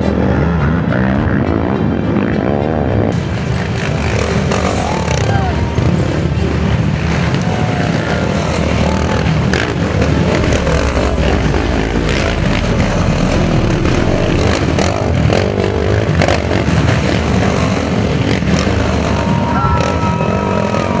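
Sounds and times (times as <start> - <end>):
quad engines revving: 0.0 - 21.0.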